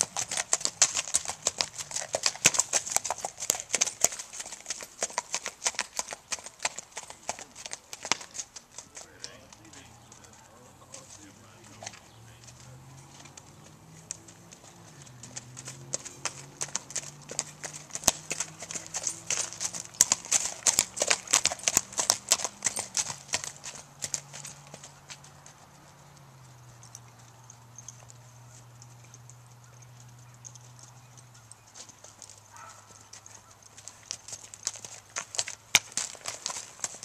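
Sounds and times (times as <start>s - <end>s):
horse hoofbeats on dirt: 0.0s - 37.0s.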